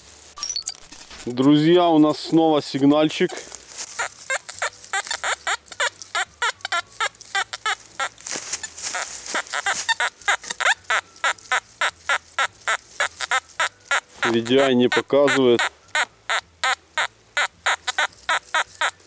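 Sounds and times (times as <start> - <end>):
coil brushing dry leaves: 0.0 - 15.9, 17.8 - 19.0
metal detector chirping tones: 0.4 - 0.9, 3.9 - 19.0.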